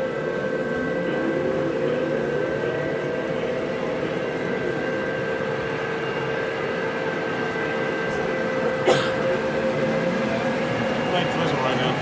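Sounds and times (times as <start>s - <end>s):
model train whine: 0.0s - 12.0s.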